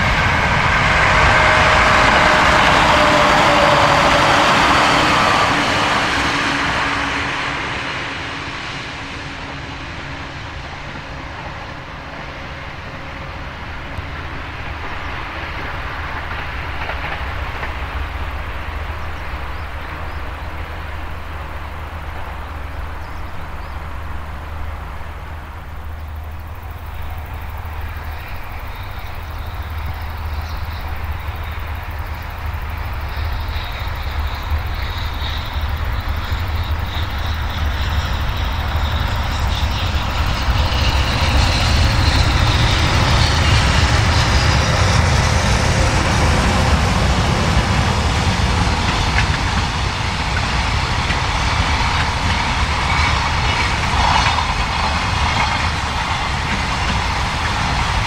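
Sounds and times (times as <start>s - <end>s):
train rumble approaching: 0.0s - 58.0s.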